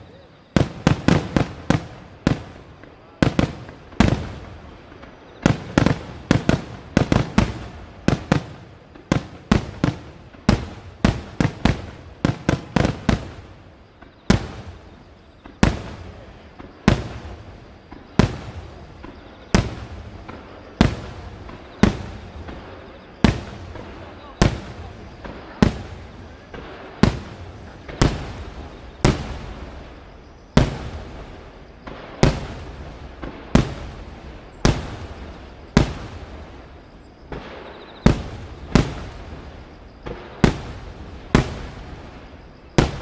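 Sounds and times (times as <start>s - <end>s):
fireworks bursting with sharp bangs: 0.0s - 43.0s.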